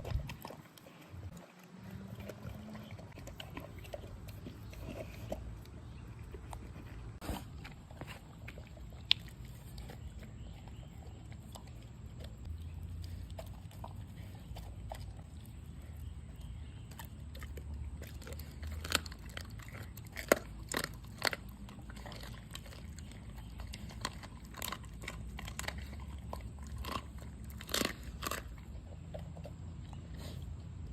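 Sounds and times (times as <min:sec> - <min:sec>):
dogs chewing meat and bone: 0:00.0 - 0:30.9.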